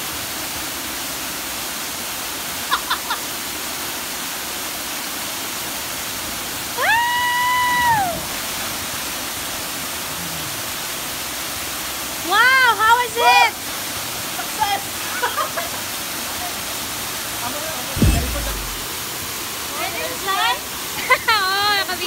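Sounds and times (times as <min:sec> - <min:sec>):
waterfall rushing into pool: 0:00.0 - 0:22.0.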